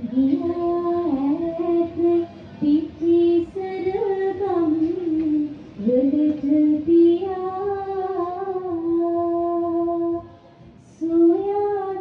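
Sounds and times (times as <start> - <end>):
person singing devotional song: 0.0 - 12.0.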